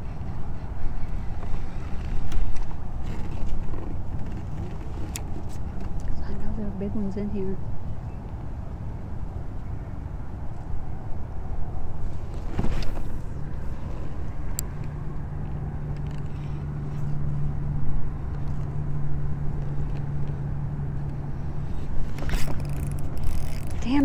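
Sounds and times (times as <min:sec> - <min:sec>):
steady low hum: 0:00.0 - 0:24.0
wind rumbling on microphone: 0:00.0 - 0:24.0.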